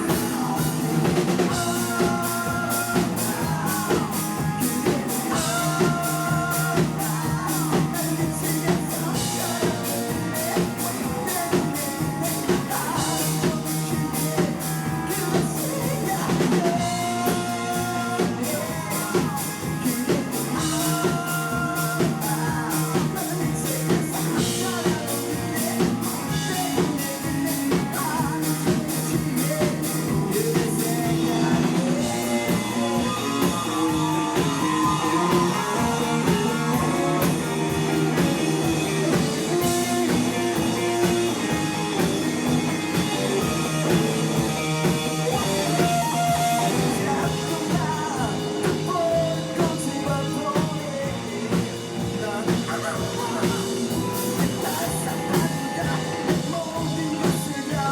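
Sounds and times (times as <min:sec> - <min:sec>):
drum kit: 0:00.0 - 0:57.9
electric guitar: 0:00.0 - 0:57.9
person singing: 0:00.0 - 0:57.9.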